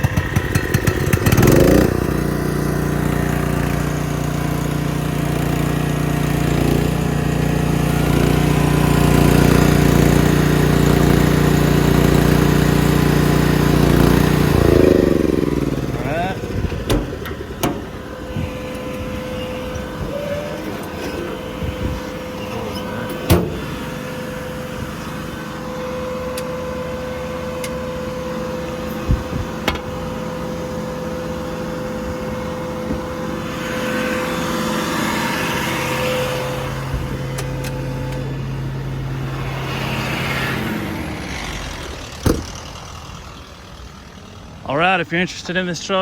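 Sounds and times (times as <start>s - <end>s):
welder generator running: 0.0s - 46.0s.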